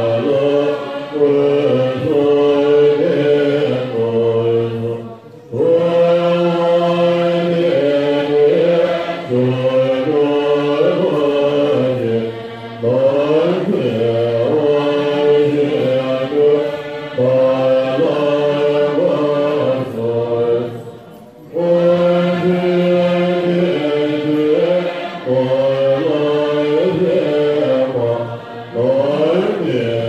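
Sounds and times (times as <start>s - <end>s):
monks chanting in unison: 0.0s - 30.0s.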